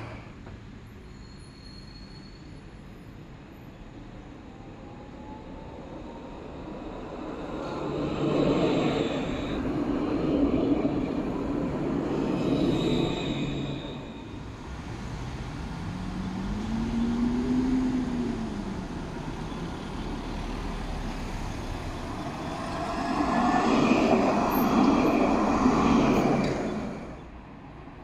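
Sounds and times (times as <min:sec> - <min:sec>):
tram passing with motors whining: 0:02.6 - 0:28.0.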